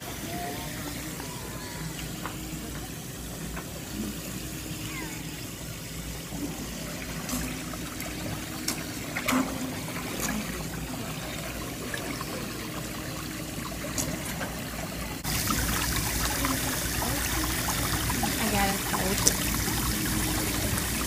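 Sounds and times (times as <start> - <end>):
water spraying into tub: 0.0 - 21.0.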